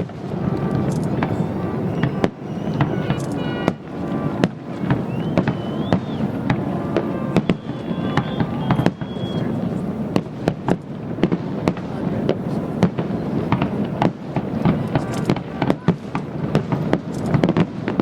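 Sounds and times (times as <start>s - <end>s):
fireworks bursting and crackling: 0.0s - 18.0s
whistling firework shells: 0.0s - 18.0s.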